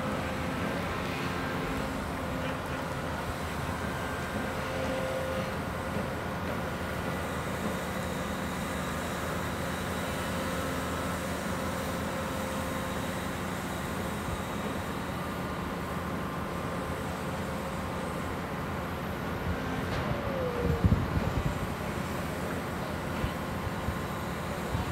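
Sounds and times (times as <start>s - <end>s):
excavator engine and hydraulics drone: 0.0s - 24.9s.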